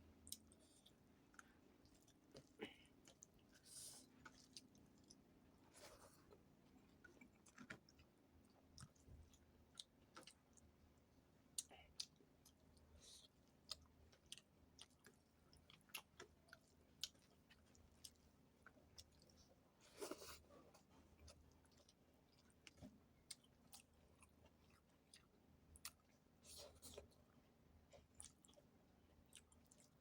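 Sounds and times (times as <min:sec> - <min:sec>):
person chewing food: 0:00.1 - 0:30.0.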